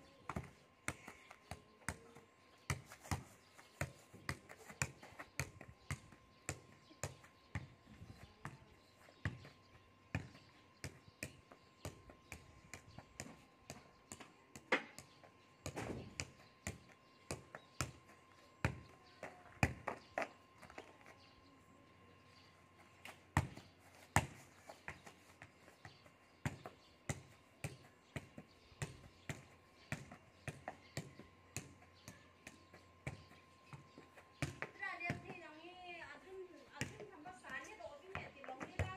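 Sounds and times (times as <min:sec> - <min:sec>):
foot tapping a football: 0:00.2 - 0:21.0, 0:23.0 - 0:35.5, 0:36.8 - 0:38.9.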